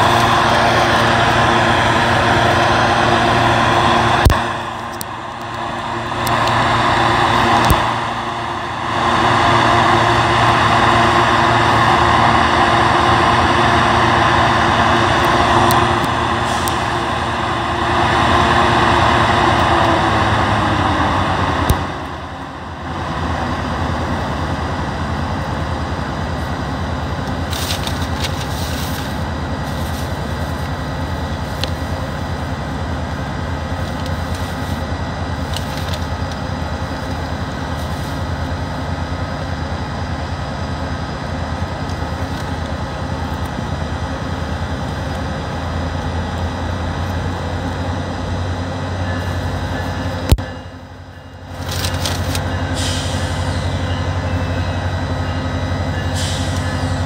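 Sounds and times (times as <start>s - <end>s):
train idling rumble: 0.0s - 57.0s.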